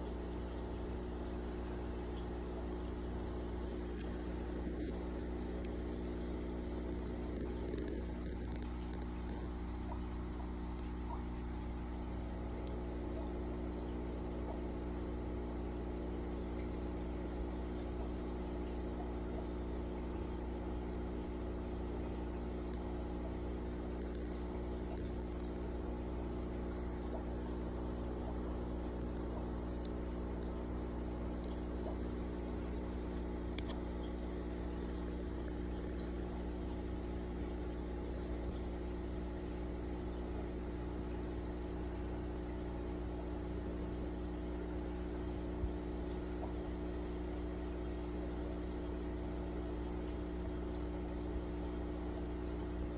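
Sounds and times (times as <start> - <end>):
aquarium air pump humming: 0.0 - 52.9
bubbles hissing: 0.0 - 52.9.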